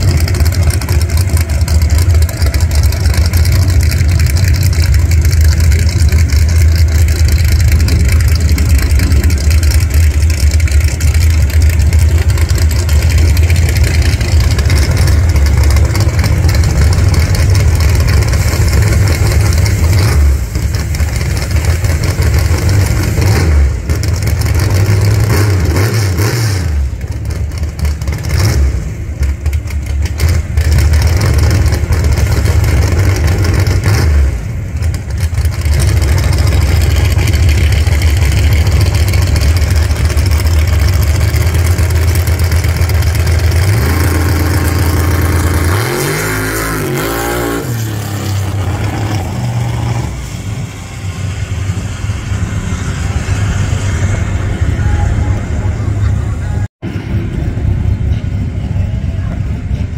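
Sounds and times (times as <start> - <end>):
drag car engine rumbling: 0.0 - 59.9.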